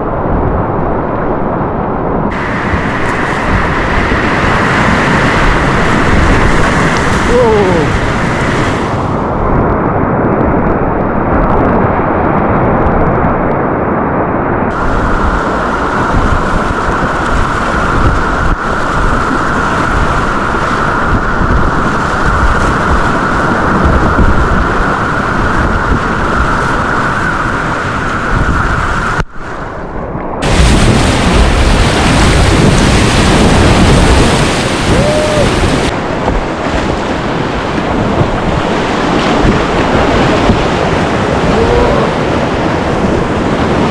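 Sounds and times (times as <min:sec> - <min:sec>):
whitewater rapids rushing: 0:02.3 - 0:09.7, 0:14.7 - 0:29.0, 0:30.4 - 0:43.9.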